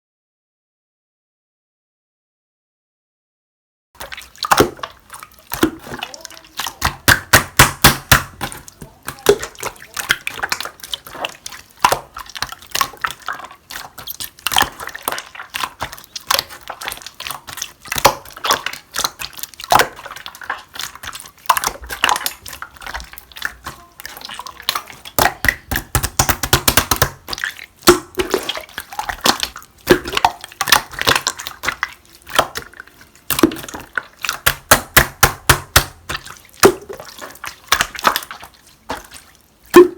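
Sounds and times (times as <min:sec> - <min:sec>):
wet slime plops: 0:04.0 - 0:39.9.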